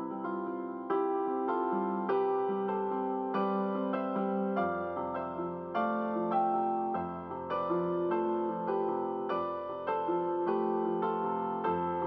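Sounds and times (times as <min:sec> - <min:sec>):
soft slow solo piano: 0:00.0 - 0:12.0.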